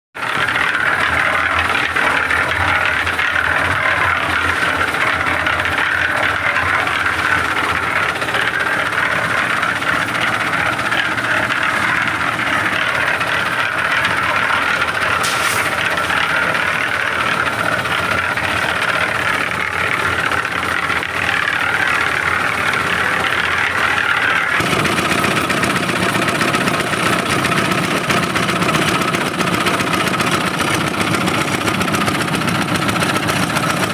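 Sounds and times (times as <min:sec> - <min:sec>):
concrete mixer diesel engine running: 0:00.2 - 0:33.9.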